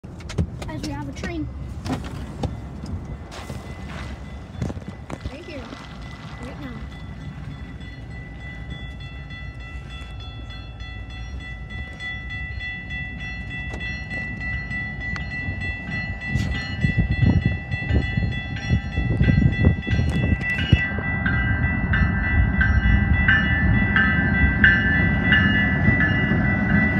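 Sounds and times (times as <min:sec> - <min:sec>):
locomotive engine and rail rumble: 0:00.0 - 0:26.9.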